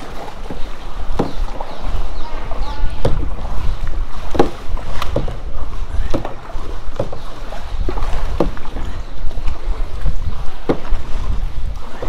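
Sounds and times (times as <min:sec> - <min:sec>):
paddle strokes splashing: 0:00.0 - 0:12.0.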